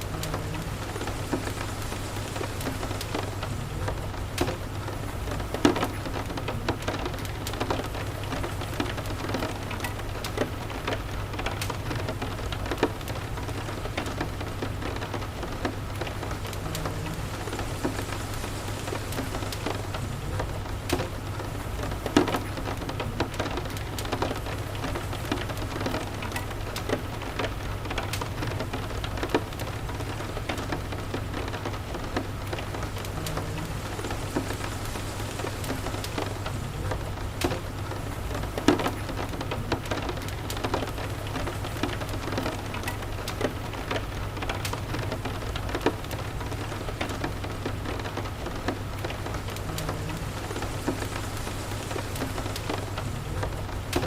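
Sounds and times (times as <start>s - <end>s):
steady rain: 0.0s - 54.0s
wood fire popping and crackling: 0.0s - 54.0s.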